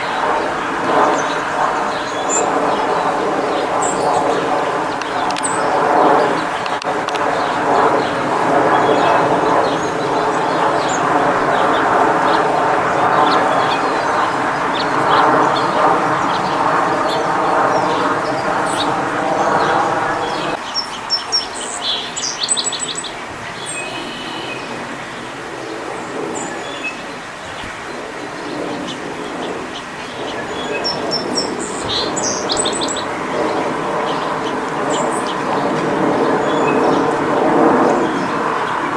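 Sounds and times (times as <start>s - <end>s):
birds chirping: 0.0s - 38.9s
rapid bird calls: 0.0s - 38.9s.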